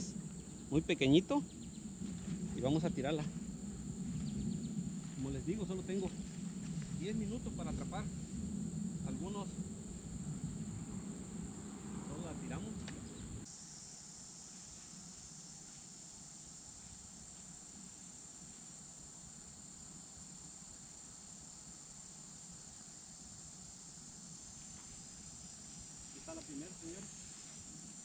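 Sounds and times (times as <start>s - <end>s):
insects chirping: 0.0s - 28.0s
low background noise: 0.0s - 28.0s.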